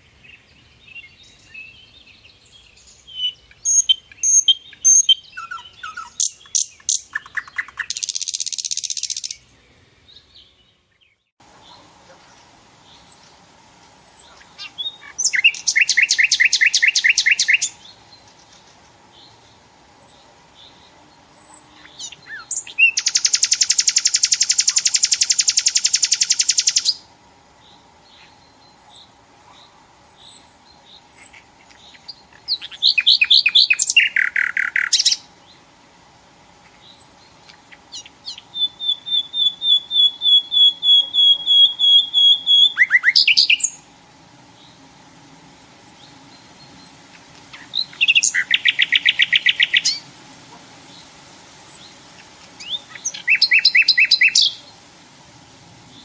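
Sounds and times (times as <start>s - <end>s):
nightingale singing: 0.0s - 11.9s, 12.6s - 35.8s, 36.6s - 43.9s, 44.5s - 50.1s, 50.8s - 55.0s, 55.8s - 56.0s
faint steady hum: 9.3s - 56.0s.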